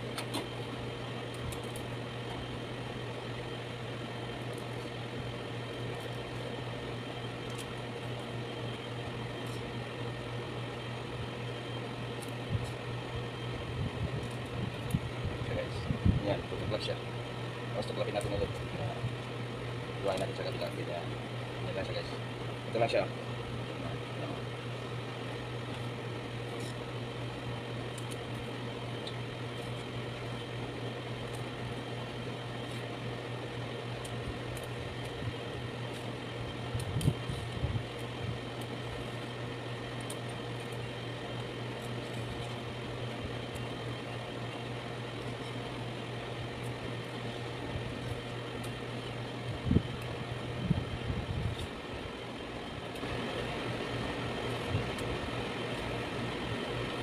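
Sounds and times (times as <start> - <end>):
machine hum: 0.0 - 57.0.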